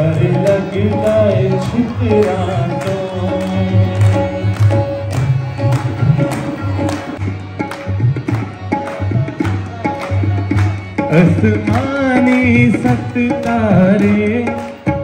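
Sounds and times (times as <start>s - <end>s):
audience clapping along: 0.0s - 15.0s.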